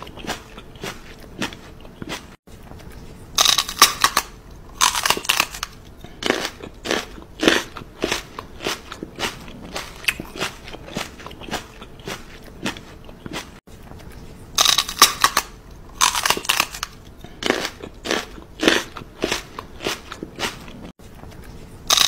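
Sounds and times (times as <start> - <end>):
crisp crunching: 0.0 - 22.0.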